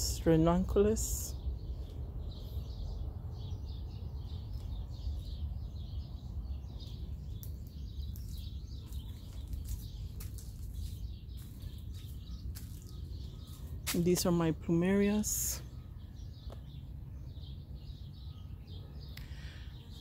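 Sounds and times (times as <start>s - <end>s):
steady low rumble: 0.0s - 18.3s
small birds chirping: 0.0s - 20.0s.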